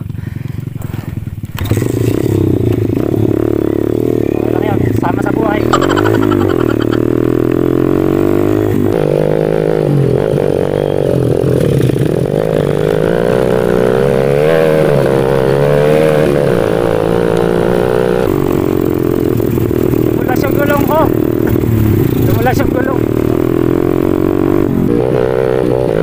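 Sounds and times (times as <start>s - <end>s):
small motorbike engine revving: 0.0s - 26.0s.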